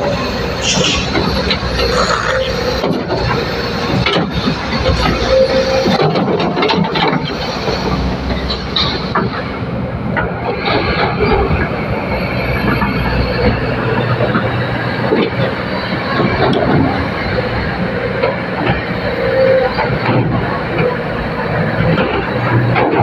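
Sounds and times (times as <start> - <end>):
excavator machinery noise: 0.0 - 23.0.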